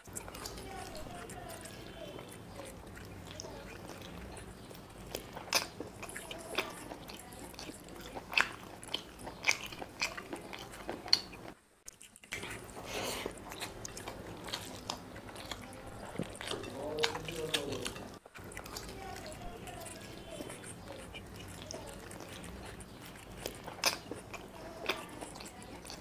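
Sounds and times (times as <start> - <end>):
chewing: 0.0 - 26.0.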